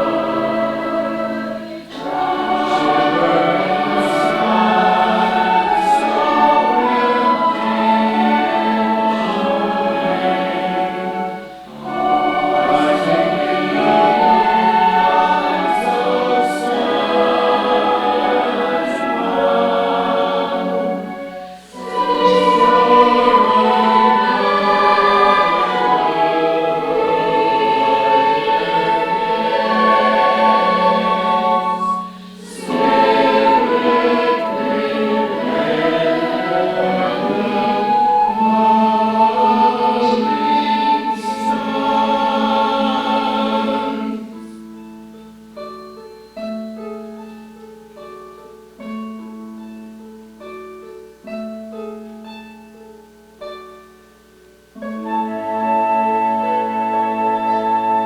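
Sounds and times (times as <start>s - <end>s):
church choir singing: 0.0s - 46.5s, 54.2s - 58.0s
piano ringing notes: 0.0s - 58.0s.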